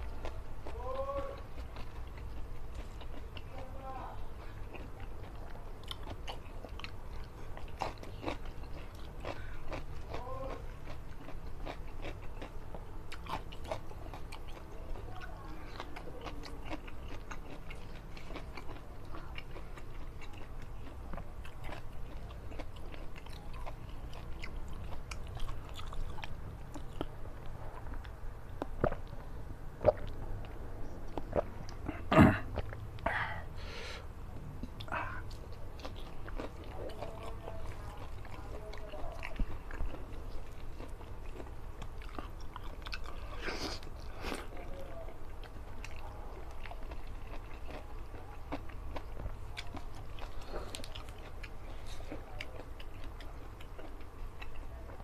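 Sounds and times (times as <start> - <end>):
man chewing with wet smacks: 0.0 - 33.5, 34.4 - 55.0
low steady hum: 0.0 - 55.0.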